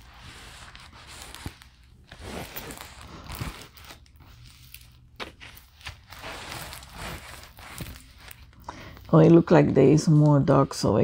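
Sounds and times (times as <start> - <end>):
plastic film crinkling: 0.0 - 9.4.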